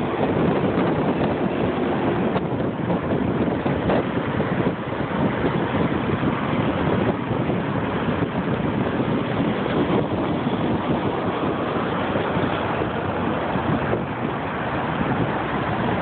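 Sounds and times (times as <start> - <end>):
car road noise: 0.0 - 16.0
wind buffeting microphone: 0.0 - 16.0.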